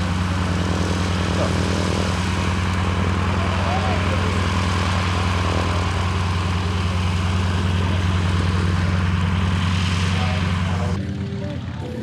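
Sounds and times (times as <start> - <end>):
aircraft engine idling: 0.0 - 12.0.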